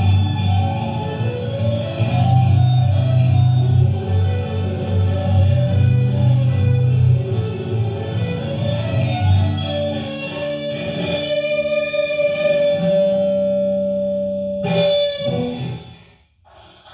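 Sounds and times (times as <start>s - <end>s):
bass guitar: 0.0s - 16.0s
electric guitar: 0.0s - 16.2s.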